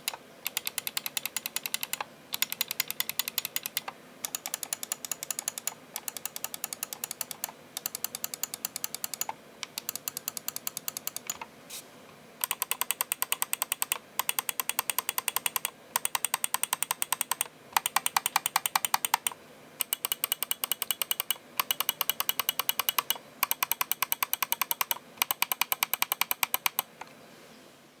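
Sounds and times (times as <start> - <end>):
mouse buttons clicking rapidly: 0.0 - 11.4, 12.4 - 26.9.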